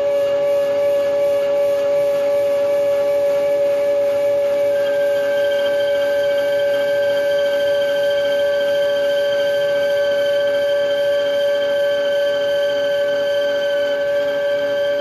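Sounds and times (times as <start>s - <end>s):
metal lathe whine: 0.0s - 15.0s.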